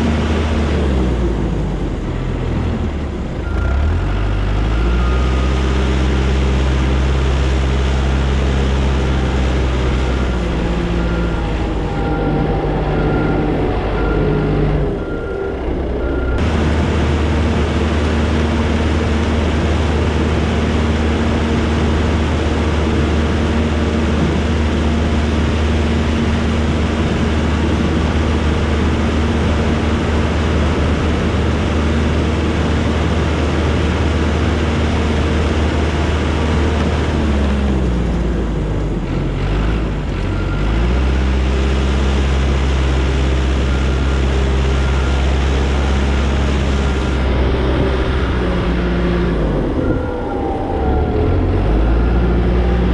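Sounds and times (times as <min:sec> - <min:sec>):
diesel engine running under load: 0:00.0 - 0:52.9.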